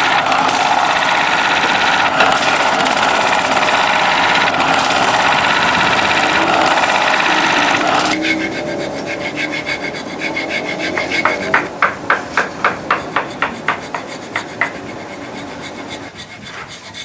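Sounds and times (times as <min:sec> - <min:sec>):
rasp scraping wood: 0:00.0 - 0:17.0.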